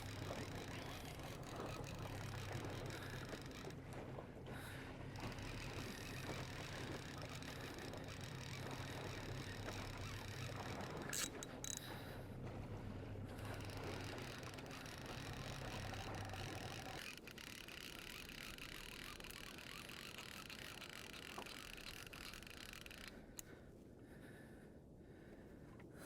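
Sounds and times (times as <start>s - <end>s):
boat motor humming: 0.0s - 23.6s
water: 0.0s - 26.0s.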